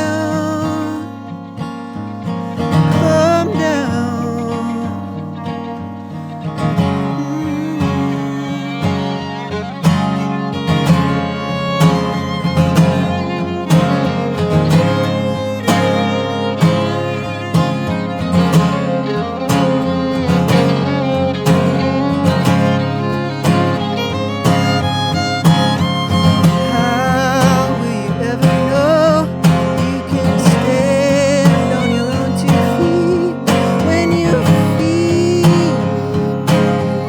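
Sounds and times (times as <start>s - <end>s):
fiddle melody: 0.0s - 37.0s
strummed acoustic guitar: 0.0s - 37.0s.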